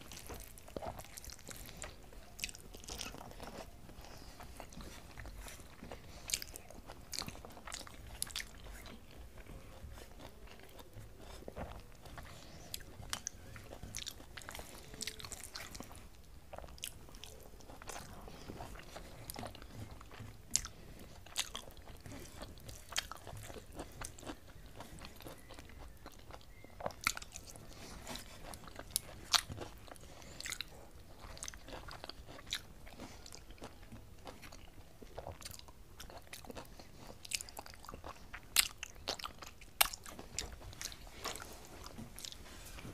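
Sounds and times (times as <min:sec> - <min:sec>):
chewing and wet mouth clicks: 0:00.1 - 0:41.4.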